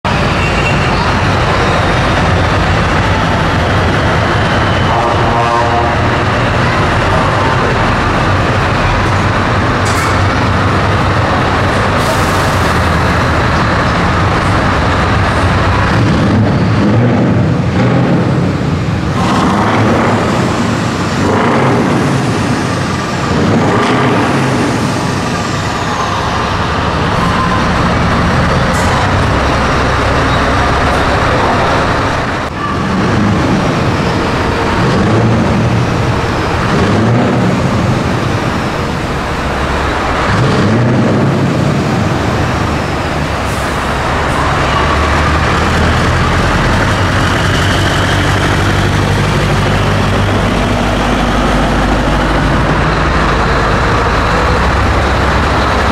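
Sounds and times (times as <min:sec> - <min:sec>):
truck engine rumbling loudly: 0:00.0 - 0:55.9
trucks rolling past: 0:00.0 - 0:55.9.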